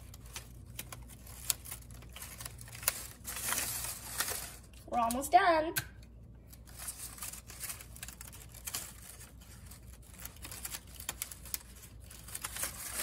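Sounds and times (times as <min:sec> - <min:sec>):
paper rustling and crinkling: 0:00.0 - 0:04.8, 0:06.4 - 0:13.0.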